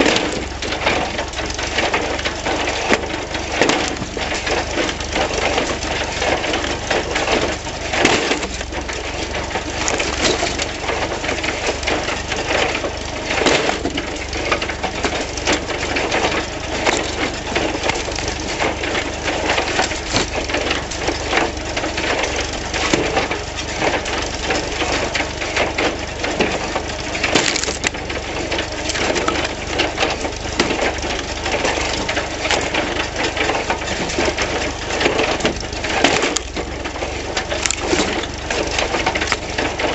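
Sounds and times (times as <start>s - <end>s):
machinery humming: 0.0s - 39.9s
wood cracking and splintering: 0.0s - 39.9s.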